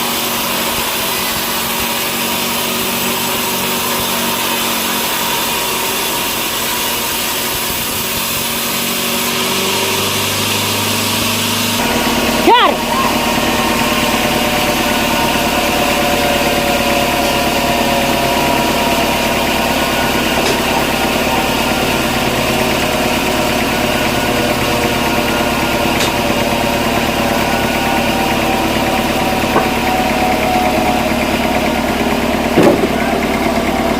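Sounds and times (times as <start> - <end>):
sawmill machinery droning: 0.0 - 33.9.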